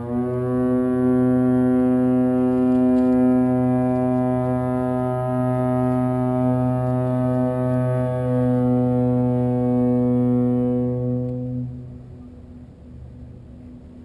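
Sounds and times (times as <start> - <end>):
submarine horn blast: 0.0 - 13.8.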